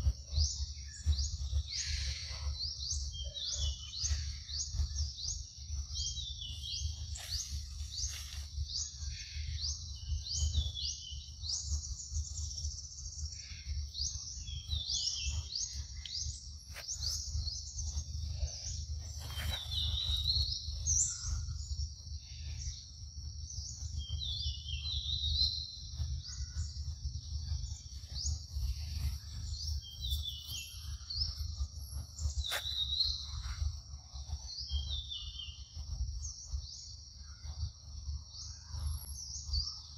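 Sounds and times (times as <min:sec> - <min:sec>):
low rumble: 0:00.0 - 0:38.4
birds calling: 0:00.0 - 0:39.9
high-pitched insect drone: 0:00.0 - 0:39.9.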